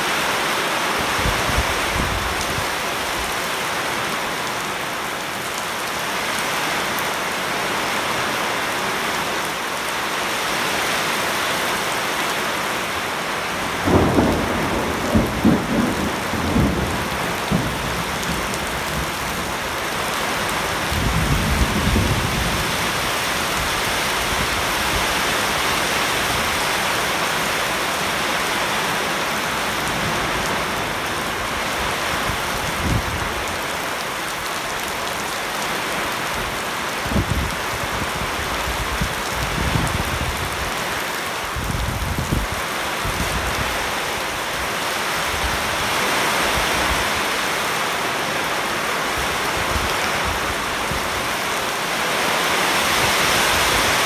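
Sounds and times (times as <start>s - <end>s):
heavy rain falling on leaves: 0.0s - 54.0s.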